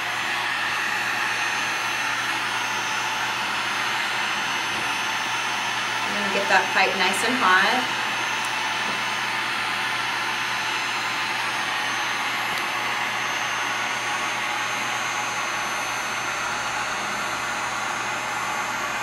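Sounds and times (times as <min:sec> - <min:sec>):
heat gun fan blowing: 0:00.0 - 0:19.0.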